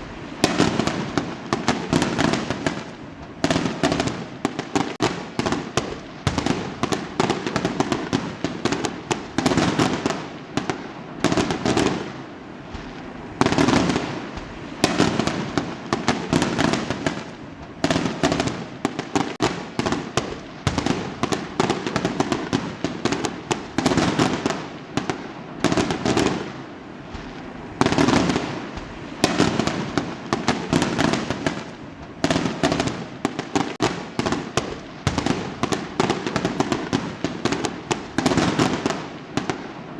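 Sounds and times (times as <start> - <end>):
fireworks bangs: 0.0 - 39.9
fireworks crackling pops: 0.0 - 39.9.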